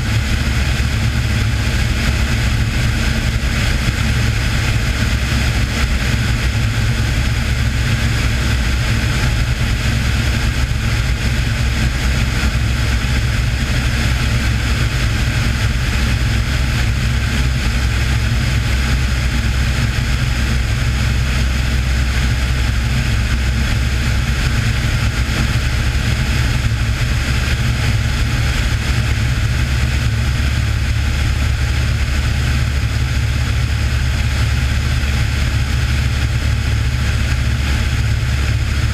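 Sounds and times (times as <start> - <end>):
airplane engine droning: 0.0 - 38.9.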